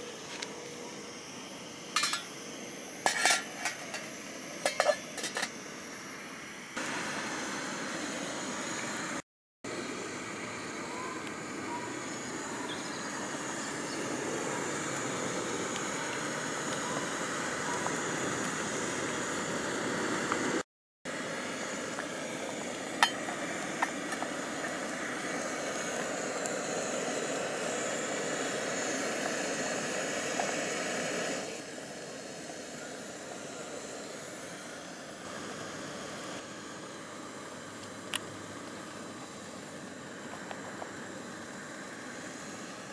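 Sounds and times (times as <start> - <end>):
stove burning with rushing hiss: 0.0 - 42.9.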